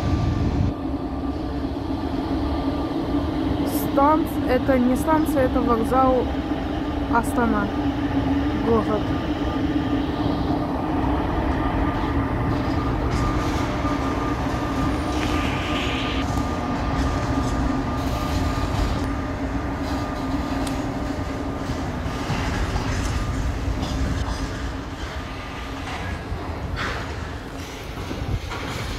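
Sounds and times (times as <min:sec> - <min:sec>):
locomotive hum: 0:00.0 - 0:28.9
train wheels rumbling on rail: 0:00.0 - 0:28.9.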